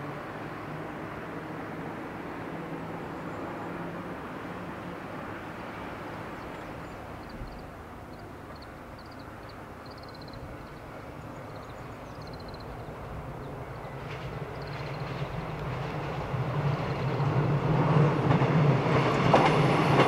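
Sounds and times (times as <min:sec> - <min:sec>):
train rumble approaching: 0:00.0 - 0:20.0.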